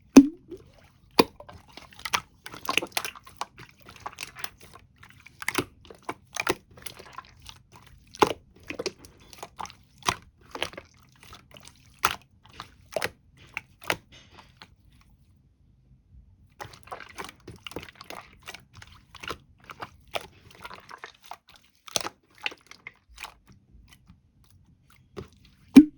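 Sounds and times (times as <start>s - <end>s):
close-up chewing and crunching: 0.0s - 15.1s, 16.6s - 25.9s.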